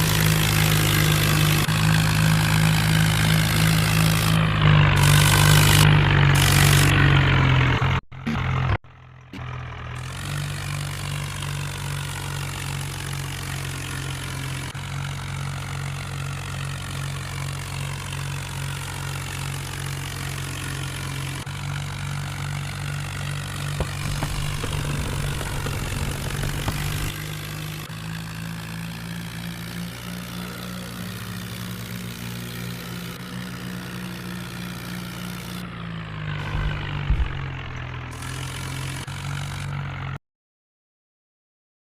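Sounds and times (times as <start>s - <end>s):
tractor diesel engine running: 0.0s - 40.2s.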